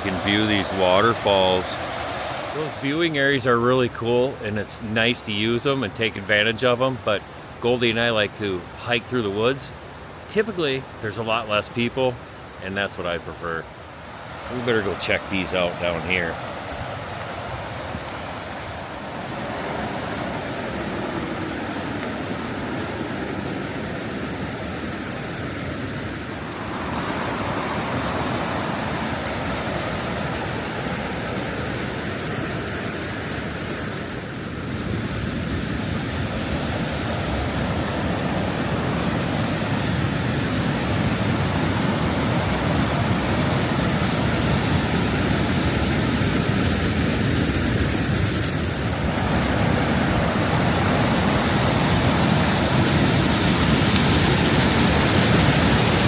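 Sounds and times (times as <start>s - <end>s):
river rapids rushing: 0.0s - 3.9s, 13.8s - 56.0s.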